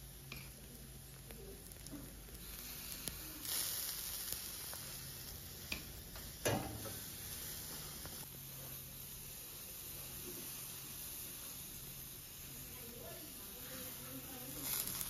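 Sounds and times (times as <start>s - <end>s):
faint crackles: 0.0s - 15.0s
food sizzling on a griddle: 0.0s - 15.0s.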